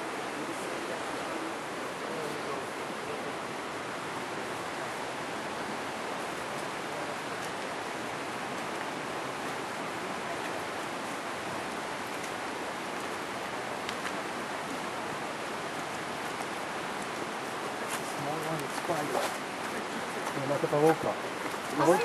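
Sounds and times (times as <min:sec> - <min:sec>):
rainforest rushing hiss: 0:00.0 - 0:22.0.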